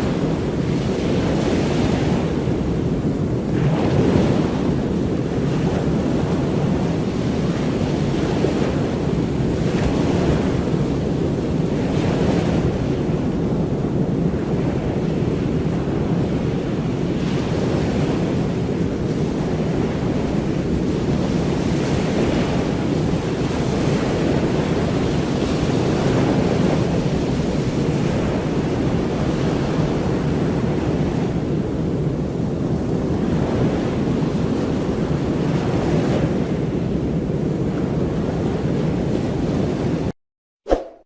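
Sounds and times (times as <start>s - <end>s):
wind: 0.0s - 40.1s, 40.7s - 41.0s.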